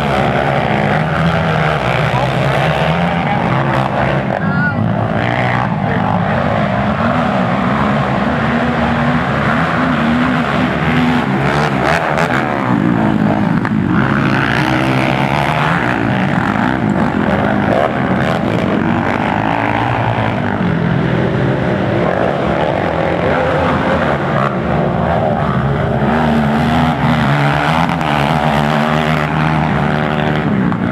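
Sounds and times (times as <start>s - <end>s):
quad engines revving: 0.0s - 30.9s.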